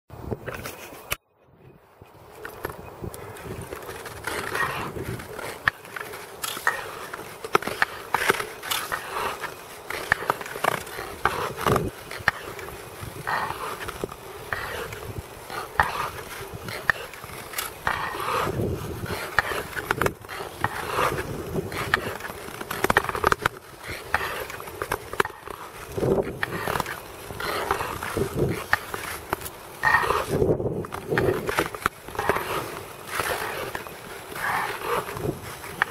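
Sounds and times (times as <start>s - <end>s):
ice skate blades scraping: 0.4s - 1.2s, 2.1s - 35.9s.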